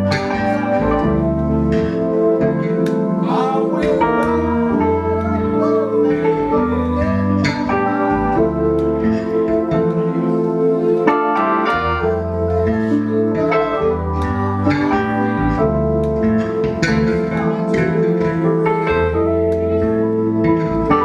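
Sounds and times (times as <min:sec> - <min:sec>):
bass line: 0:00.0 - 0:21.0
live band playing: 0:00.0 - 0:21.0.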